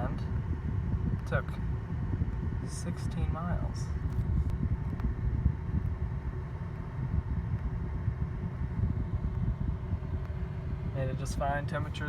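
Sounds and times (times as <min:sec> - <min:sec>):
car engine rumble: 0:00.0 - 0:12.0
wind noise on microphone: 0:00.0 - 0:12.0.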